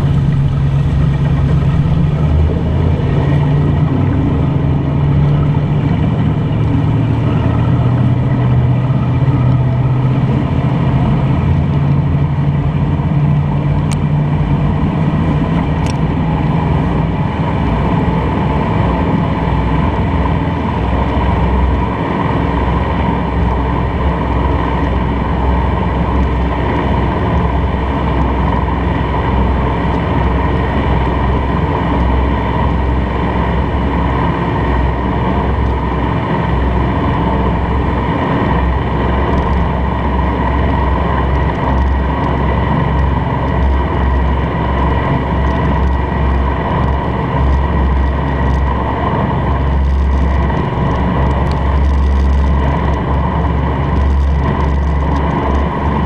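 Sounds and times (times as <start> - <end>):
boat engine drone: 0.0 - 56.0
water splashing along hull: 0.0 - 56.0.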